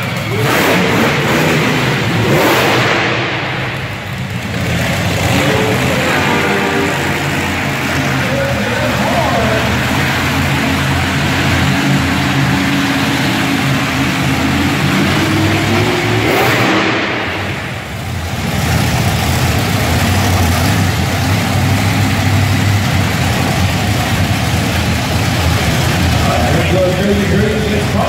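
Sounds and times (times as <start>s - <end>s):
engine revving: 0.0s - 28.0s
truck engines rumbling: 0.0s - 28.0s.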